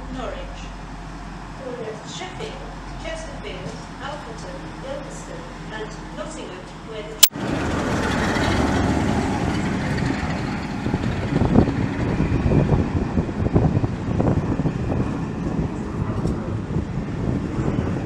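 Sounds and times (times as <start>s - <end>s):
train running on track: 0.0s - 18.0s.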